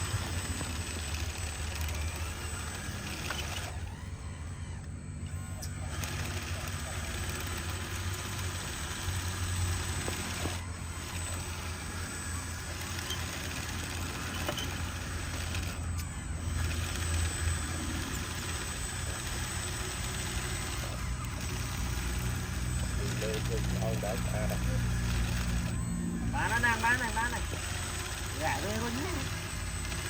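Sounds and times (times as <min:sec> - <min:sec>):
motor running steadily: 0:00.0 - 0:30.0.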